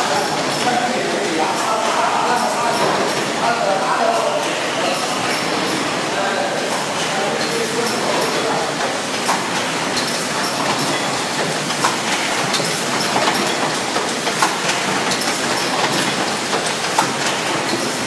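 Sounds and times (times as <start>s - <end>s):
machine clattering with clicks: 0.0s - 18.0s.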